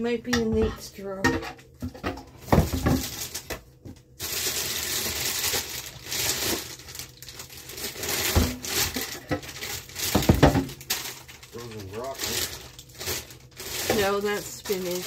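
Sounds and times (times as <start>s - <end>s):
plastic bags crinkling: 2.3s - 15.0s
frozen packets knocking together: 2.4s - 15.0s.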